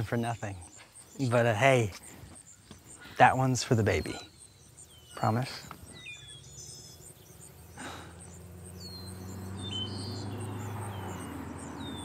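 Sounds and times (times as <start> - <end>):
bird chirps: 0.0 - 12.0
crickets chirping: 0.0 - 12.0.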